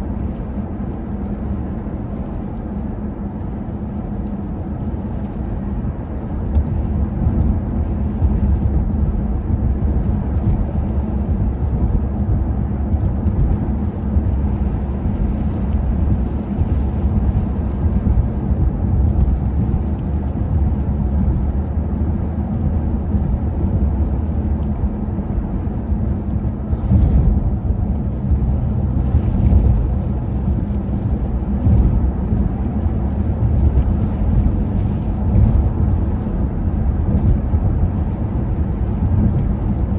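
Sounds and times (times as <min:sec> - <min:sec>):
blizzard wind buffeting microphone: 0:00.0 - 0:39.9.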